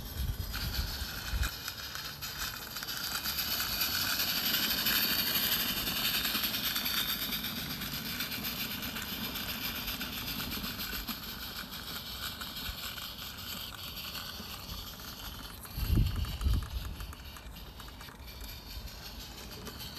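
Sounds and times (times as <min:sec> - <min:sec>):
steam locomotive chuffing: 0:00.0 - 0:19.9
wagons rolling on track: 0:00.0 - 0:19.9.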